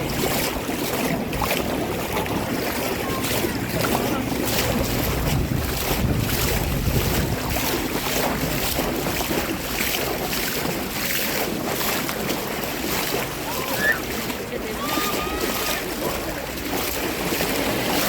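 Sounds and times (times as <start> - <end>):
sea water washing and splashing: 0.0 - 18.0
wind buffeting microphone: 0.0 - 18.0.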